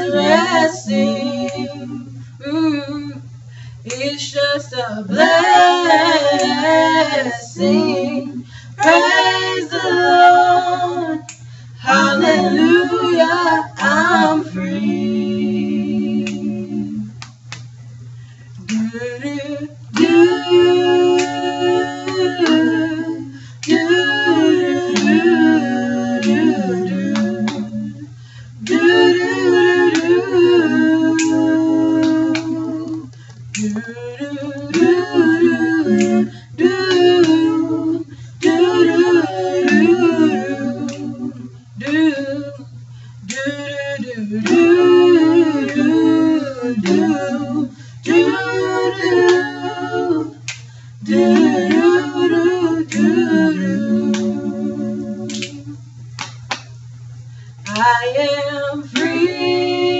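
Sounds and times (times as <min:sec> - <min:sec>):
women singing gospel: 0:00.0 - 0:17.3, 0:18.5 - 0:55.8, 0:57.6 - 0:59.9
low hum: 0:00.0 - 0:59.9.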